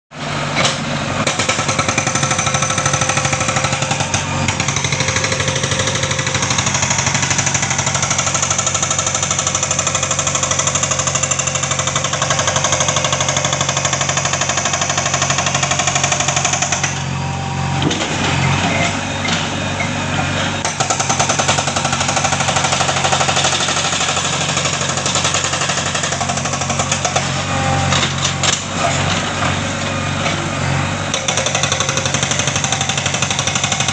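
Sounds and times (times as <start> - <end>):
excavator engine running: 0.2 - 33.9
hydraulic breaker pounding rock: 0.5 - 17.2, 17.8 - 33.9.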